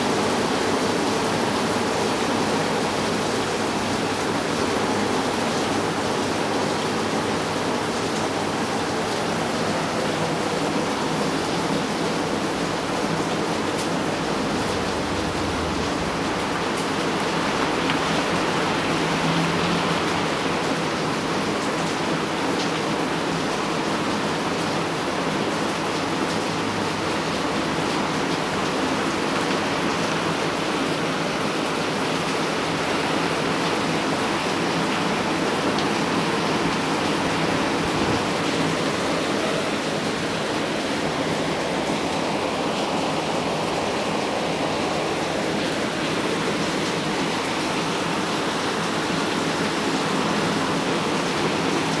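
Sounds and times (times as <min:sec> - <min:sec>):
heavy rain on metal roofs: 0:00.0 - 0:52.0
runoff pouring off roof: 0:00.0 - 0:52.0.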